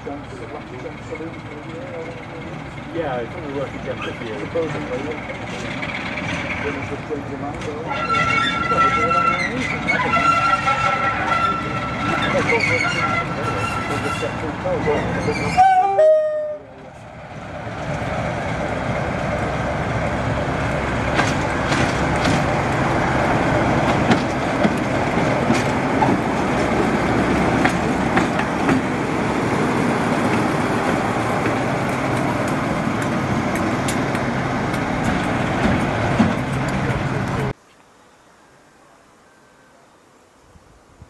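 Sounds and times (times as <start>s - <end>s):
wheels clicking over rail joints: 0.0s - 16.2s, 16.8s - 37.6s
diesel locomotive engine running: 0.0s - 37.6s.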